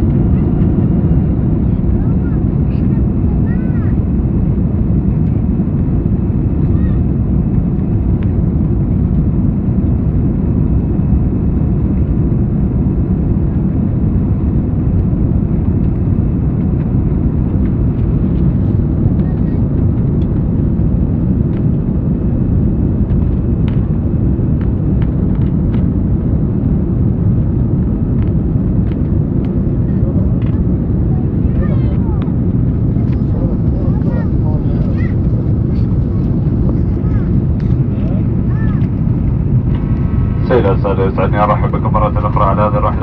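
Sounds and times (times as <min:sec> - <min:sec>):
airplane cabin engine roar: 0:00.0 - 0:43.0.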